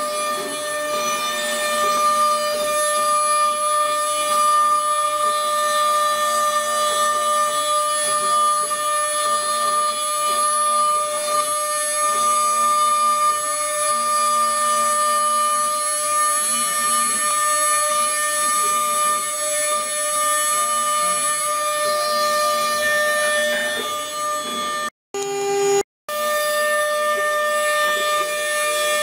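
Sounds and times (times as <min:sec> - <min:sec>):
cnc router spindle whining: 0:00.0 - 0:29.0
end mill carving wood: 0:00.0 - 0:29.0.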